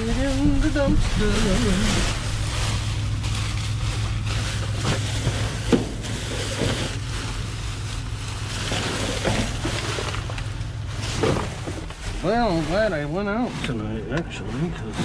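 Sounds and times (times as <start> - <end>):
low rumble: 0.0 - 15.0
trash rustling and knocking: 0.0 - 15.0.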